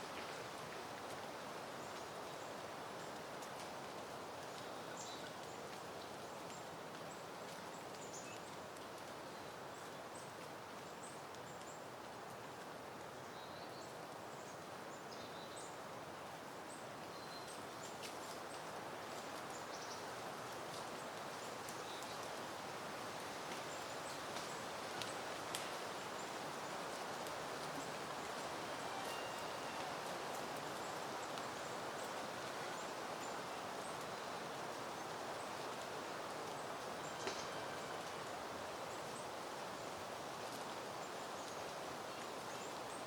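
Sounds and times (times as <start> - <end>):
wind rustling through plants: 0.0 - 43.0.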